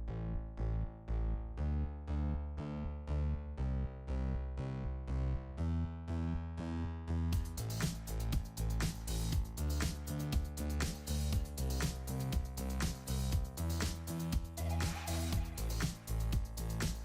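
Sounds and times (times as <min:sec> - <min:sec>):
bass line: 0:00.0 - 0:17.0.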